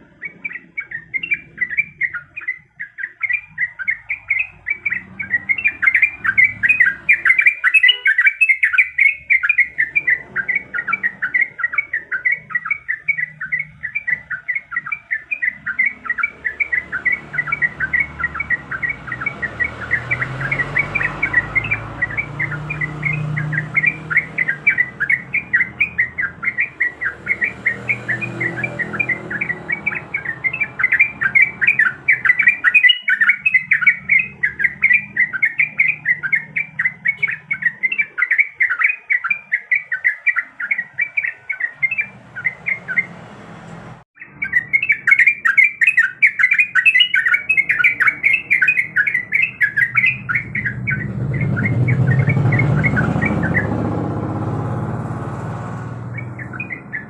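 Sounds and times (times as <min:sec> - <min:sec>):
bird singing bubbly chirps: 0:00.0 - 0:43.2, 0:44.2 - 0:55.4, 0:56.0 - 0:57.0.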